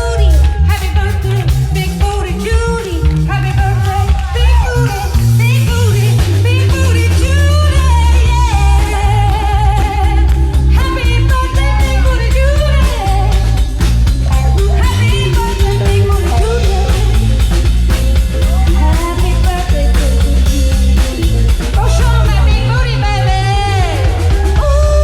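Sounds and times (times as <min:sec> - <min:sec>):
bass guitar: 0:00.0 - 0:25.0
guitar: 0:00.0 - 0:25.0
person singing: 0:00.0 - 0:25.0
steady drum beat: 0:00.0 - 0:25.0.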